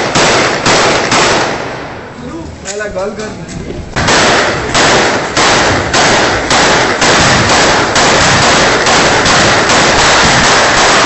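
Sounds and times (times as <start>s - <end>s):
shotgun gunshots distorted: 0.0s - 1.9s, 4.0s - 11.0s.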